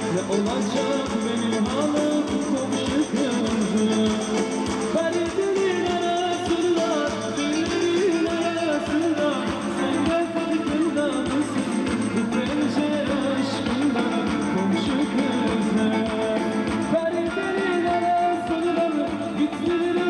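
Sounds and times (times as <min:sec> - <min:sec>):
song with sung melody and beat: 0:00.0 - 0:20.0.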